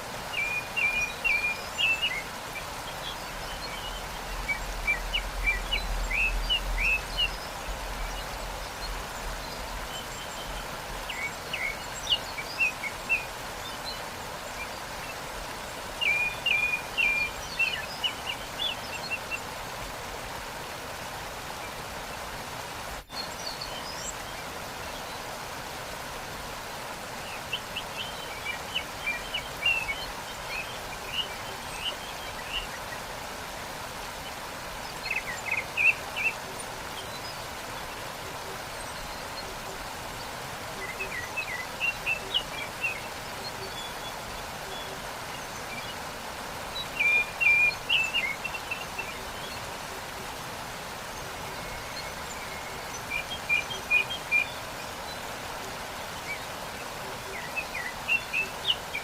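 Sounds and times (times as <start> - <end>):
songbird chirping: 0.0 - 59.0
waterfall rushing: 0.0 - 59.0.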